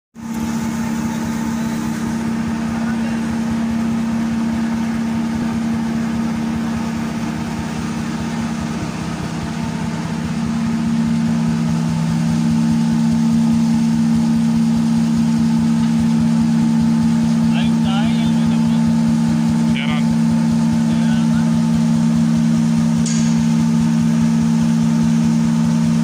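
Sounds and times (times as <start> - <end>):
machine humming: 0.2 - 26.0.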